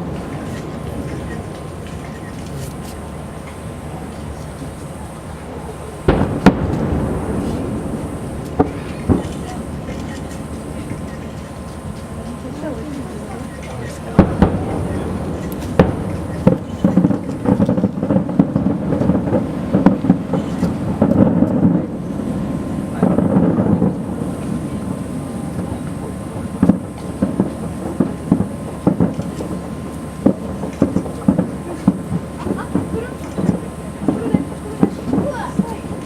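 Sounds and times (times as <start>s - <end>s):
distant fireworks bursting: 0.0s - 36.0s.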